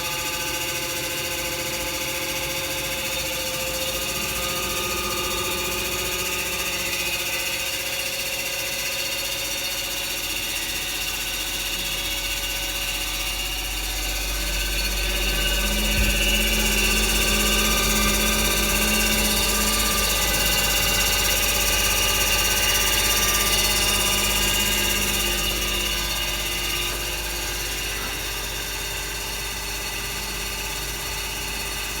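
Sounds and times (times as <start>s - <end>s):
washing machine running: 0.0s - 32.0s.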